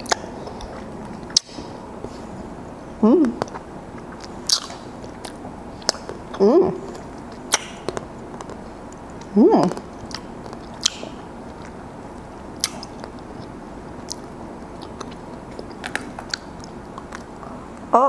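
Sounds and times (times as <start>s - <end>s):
person chewing ice cream: 0.0s - 2.4s, 3.3s - 17.8s.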